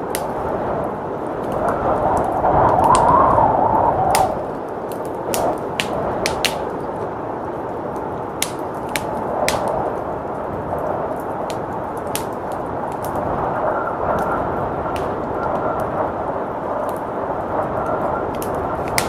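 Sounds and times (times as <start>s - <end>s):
blizzard wind gusting: 0.0s - 19.0s
wood fire crackling and popping: 0.0s - 19.0s.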